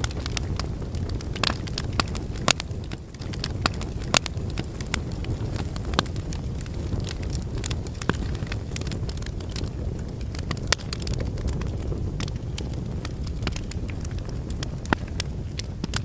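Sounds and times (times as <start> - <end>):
crackles and pops from logs: 0.0 - 16.0
low rumble of flames: 0.0 - 16.0.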